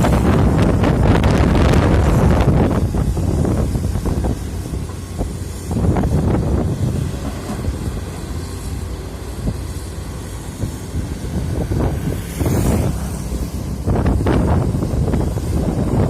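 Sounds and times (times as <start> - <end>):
diesel engine rumbling: 0.0 - 16.0
wind buffeting microphone: 0.0 - 16.0.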